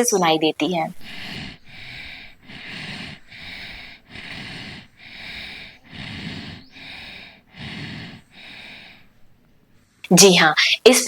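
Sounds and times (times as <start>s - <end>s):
snore-like breathing: 0.6s - 9.9s.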